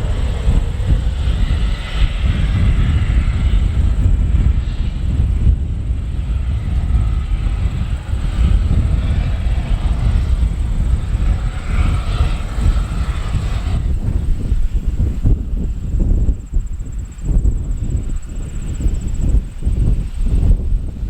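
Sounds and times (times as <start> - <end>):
aircraft engines passing: 0.0 - 21.0
wind buffeting microphone: 0.0 - 21.0.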